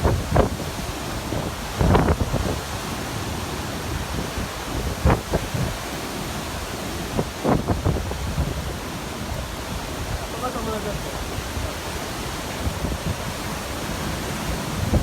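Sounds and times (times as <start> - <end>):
rush of wind: 0.0 - 15.0
surf: 0.0 - 15.0
wind buffeting microphone: 0.0 - 15.0.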